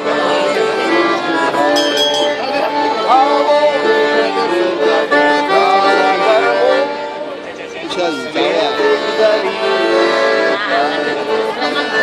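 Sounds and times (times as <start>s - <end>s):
accordion: 0.0s - 12.0s
string instrument: 0.0s - 12.0s.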